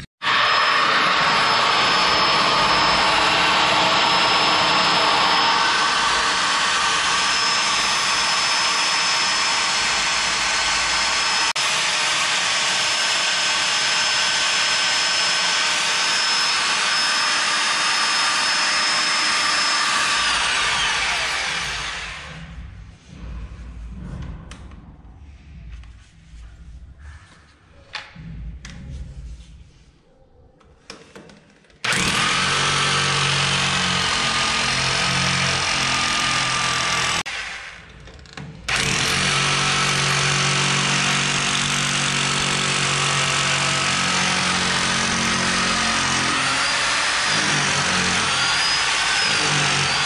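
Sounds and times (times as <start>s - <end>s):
electric drill grinding tile: 0.0s - 22.5s, 31.8s - 50.0s.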